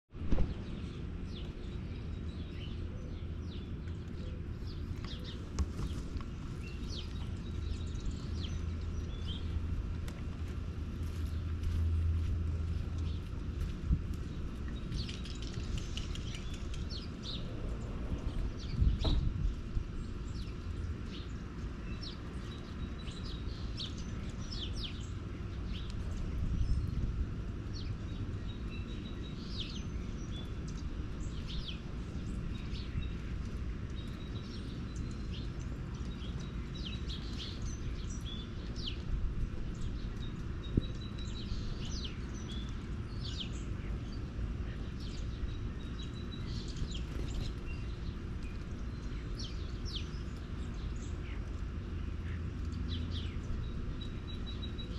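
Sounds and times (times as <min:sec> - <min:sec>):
low background rumble: 0:00.1 - 0:54.9
small birds chirping: 0:00.2 - 0:54.9.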